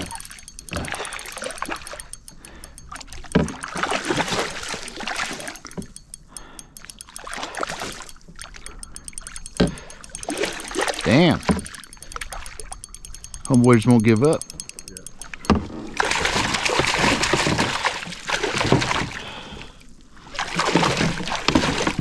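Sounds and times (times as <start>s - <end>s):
water splashing and sloshing: 0.0s - 13.3s, 15.3s - 22.0s.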